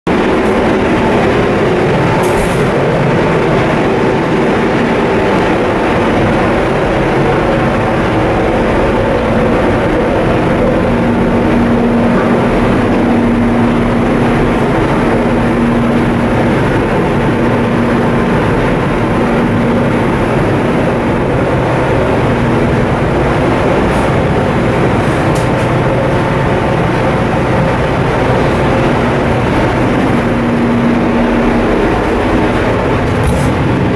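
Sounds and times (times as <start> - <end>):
ship diesel engine drone: 0.0 - 33.9.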